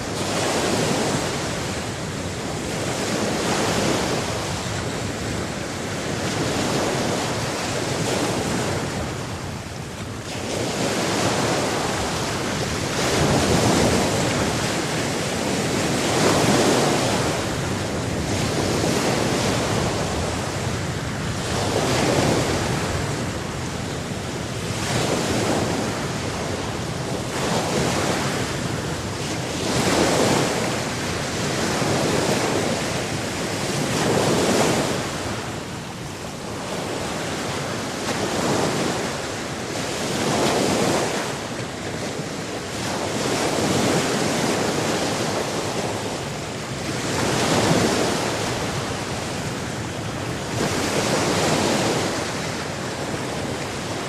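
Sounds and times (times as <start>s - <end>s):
sea surf washing onto shore: 0.0s - 54.0s.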